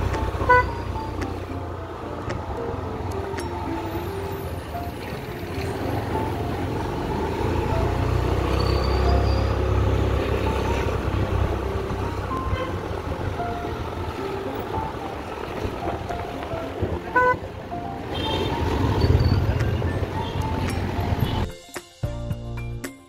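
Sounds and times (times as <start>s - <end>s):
background music with short notes: 0.0s - 23.0s.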